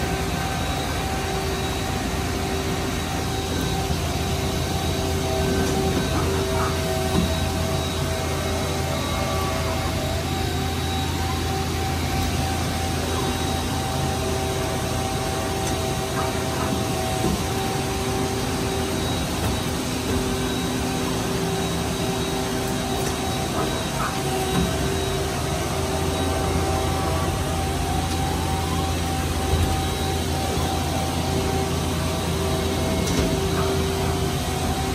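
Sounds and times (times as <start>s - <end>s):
lathe machine hum with whining: 0.0s - 34.9s.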